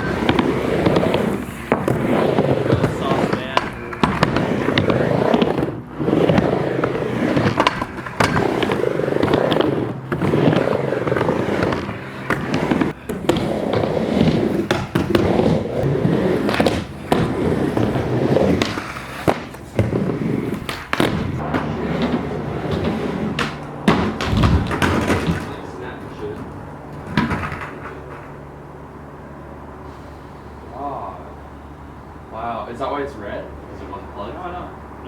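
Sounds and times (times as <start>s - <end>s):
skateboard clacking on coping: 0.0s - 28.4s
skateboard wheels rumbling: 0.0s - 35.0s.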